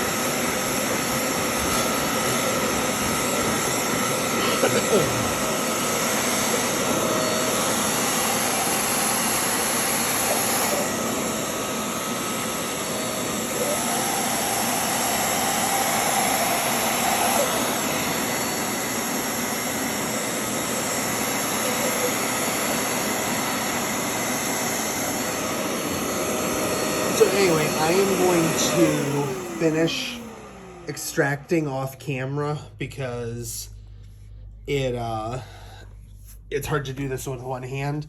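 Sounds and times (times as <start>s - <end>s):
carpet cleaner suction motor: 0.0s - 32.6s.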